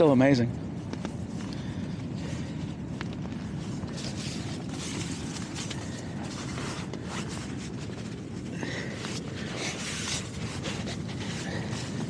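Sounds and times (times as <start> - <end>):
wind rumbling on microphone: 0.0 - 12.0
rustling: 0.9 - 12.0.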